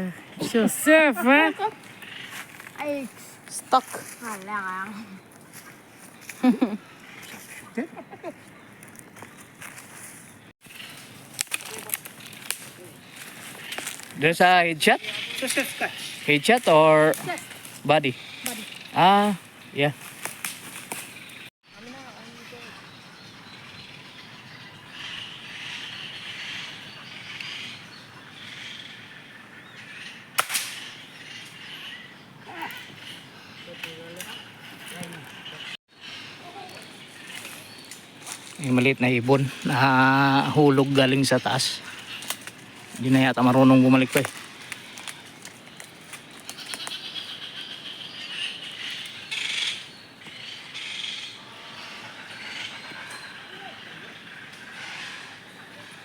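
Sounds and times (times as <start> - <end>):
jungle birds and insects: 0.0 - 56.0.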